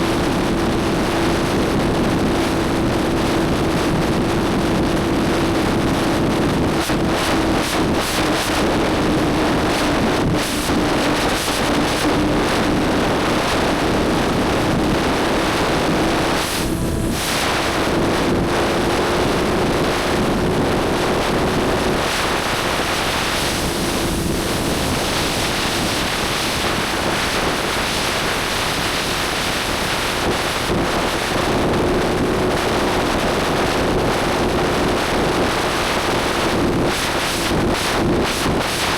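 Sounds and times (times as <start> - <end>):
motorcycle engine cruising: 0.0 - 34.8
wind noise on microphone: 0.0 - 38.9.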